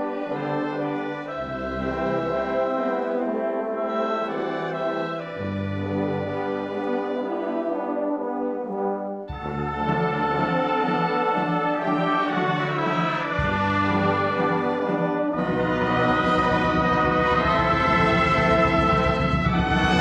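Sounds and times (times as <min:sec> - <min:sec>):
wind band playing brass chords: 0:00.0 - 0:20.0.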